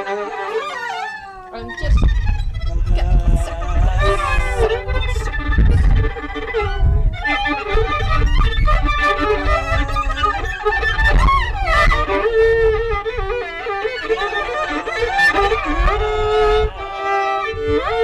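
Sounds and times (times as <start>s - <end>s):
fiddle playing with slides: 0.0s - 18.0s.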